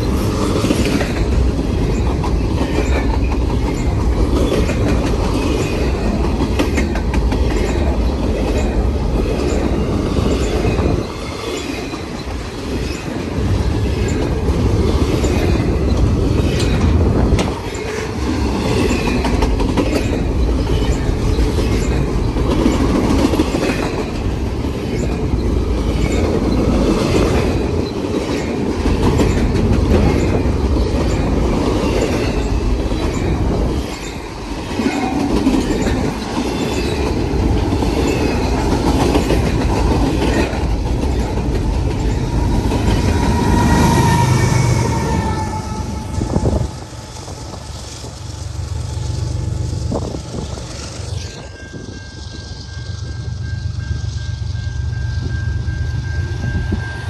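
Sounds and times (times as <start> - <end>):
wheels clicking over rail joints: 0.0 - 45.8
freight train cars rolling: 0.0 - 57.0.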